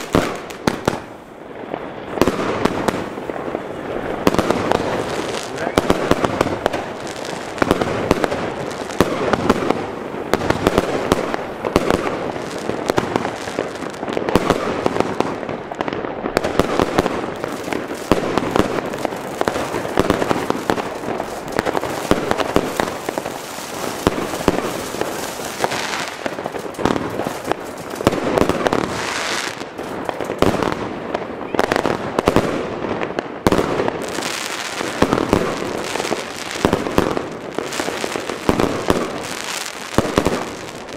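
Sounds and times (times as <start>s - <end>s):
firework barrage with bangs and crackle: 0.0s - 40.9s.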